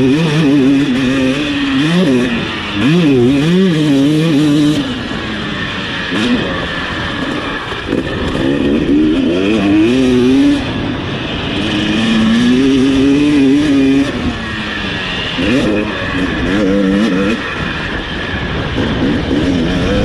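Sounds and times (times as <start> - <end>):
motocross engine at full throttle: 0.0 - 20.0.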